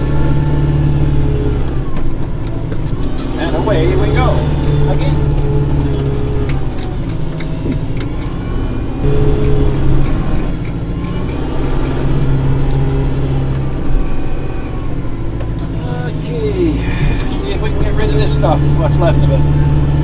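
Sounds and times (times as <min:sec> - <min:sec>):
snowblower working: 0:00.0 - 0:20.0
tractor diesel engine running: 0:00.0 - 0:20.0.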